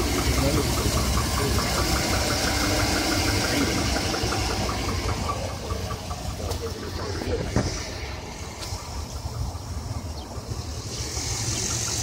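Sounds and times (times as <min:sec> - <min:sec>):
engine idling with knock: 0:00.0 - 0:12.0.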